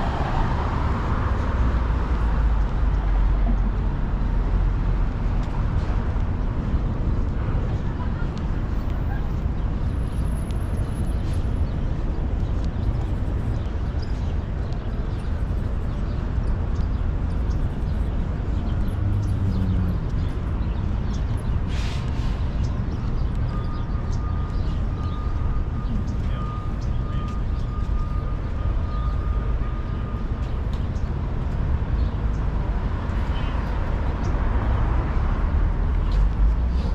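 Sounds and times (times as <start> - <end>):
city street traffic rumble: 0.0 - 36.9.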